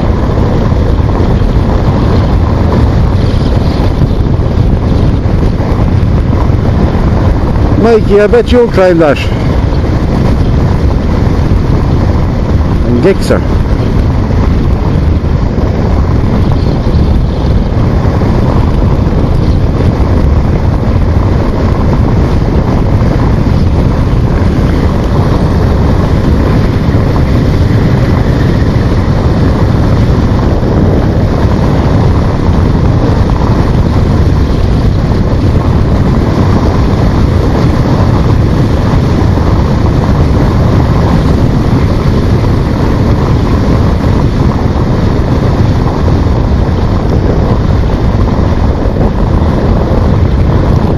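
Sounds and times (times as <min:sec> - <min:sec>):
motorcycle running: 0:00.0 - 0:50.9
road noise: 0:00.0 - 0:50.9
wind buffeting microphone: 0:00.0 - 0:50.9.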